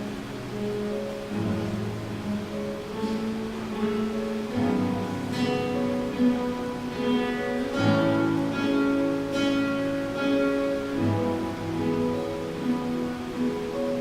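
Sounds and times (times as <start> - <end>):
plucked guitars playing: 0.0 - 14.0.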